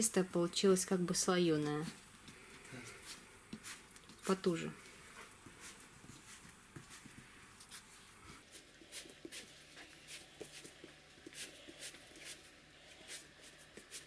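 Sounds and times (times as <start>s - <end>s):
dough rolling clicks and rubbing: 0.8s - 14.0s.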